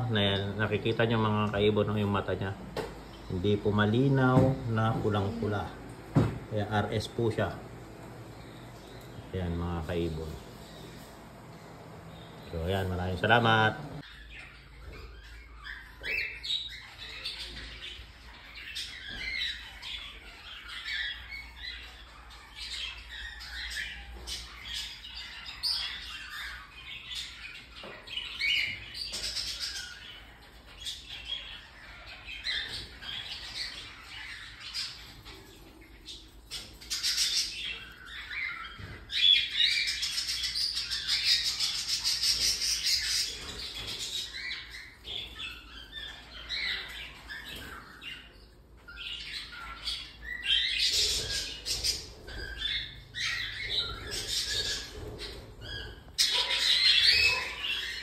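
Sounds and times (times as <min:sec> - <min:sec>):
baby birds squawking and chirping: 0:00.0 - 0:58.0.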